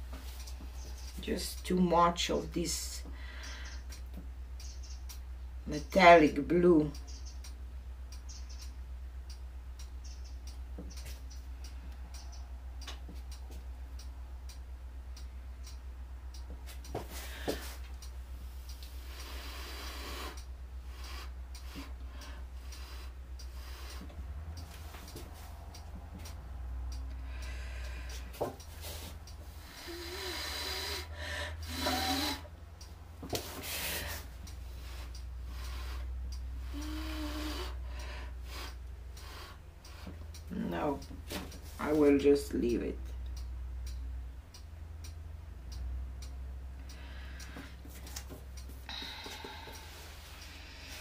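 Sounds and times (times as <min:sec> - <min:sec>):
faint clicks and ticks: 0:00.0 - 0:51.0
steady low hum: 0:00.0 - 0:51.0.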